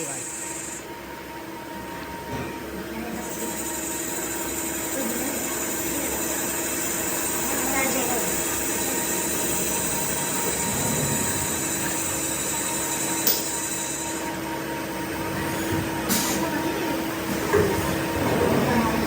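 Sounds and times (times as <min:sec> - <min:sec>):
workshop machinery humming: 0:00.0 - 0:19.0.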